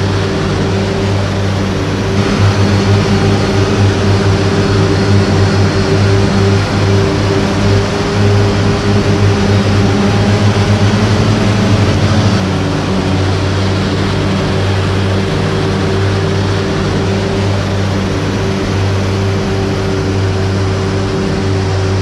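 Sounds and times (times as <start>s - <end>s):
crop cutting and blowing noise: 0.0s - 22.0s
heavy engine hum: 0.0s - 22.0s.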